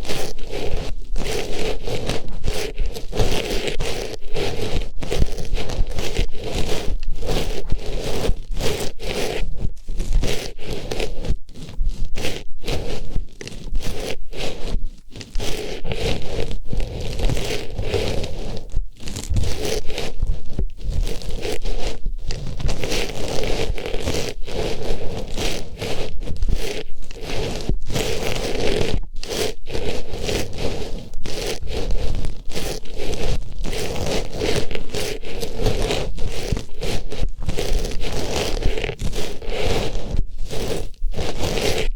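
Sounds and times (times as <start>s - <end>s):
close rustling and scraping in ear: 0.0s - 41.9s.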